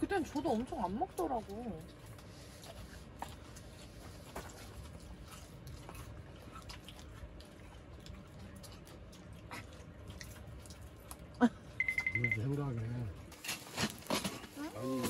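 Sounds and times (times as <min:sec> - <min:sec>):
dog chewing cabbage: 0:00.0 - 0:15.0
low steady hum: 0:00.0 - 0:15.0.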